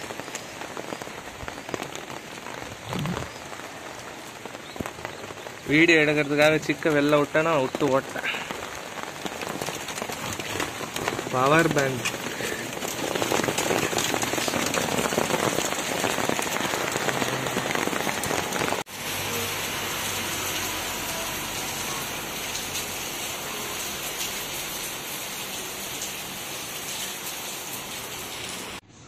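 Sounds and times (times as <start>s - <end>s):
heavy rain on concrete: 0.0s - 28.9s.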